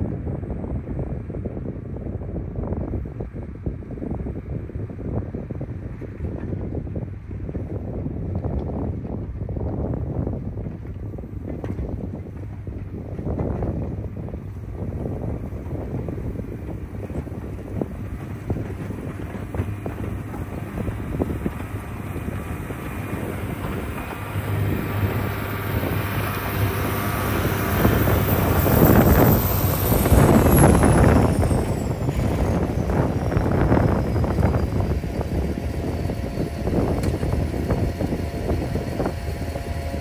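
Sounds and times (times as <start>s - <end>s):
wind on microphone: 0.0s - 40.0s
diesel engine running under load: 0.1s - 40.0s.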